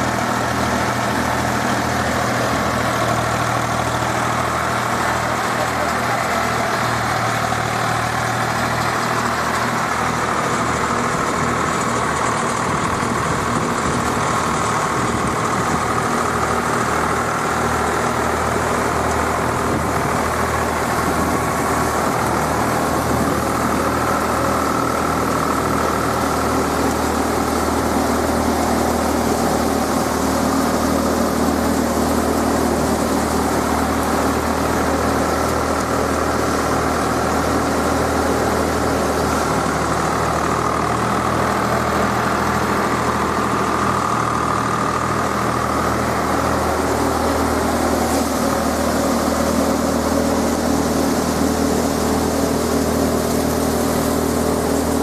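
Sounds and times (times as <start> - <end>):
thresher rushing noise: 0.0 - 55.0
tractor diesel engine running: 0.0 - 55.0.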